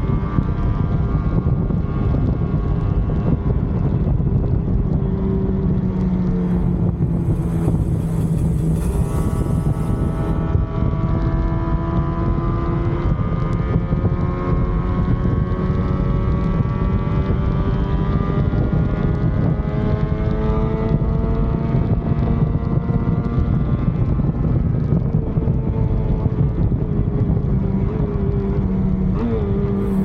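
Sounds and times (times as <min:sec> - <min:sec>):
motorcycle engine accelerating: 0:00.0 - 0:30.0
wind rumbling on microphone: 0:00.0 - 0:30.0.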